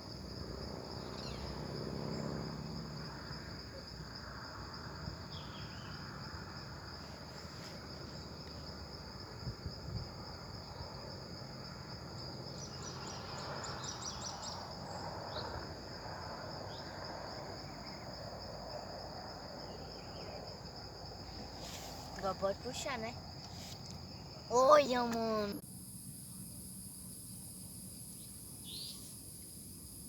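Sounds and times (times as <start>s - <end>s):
high-pitched insect chorus: 0.0s - 30.0s
rapid insect chirps: 0.0s - 30.0s.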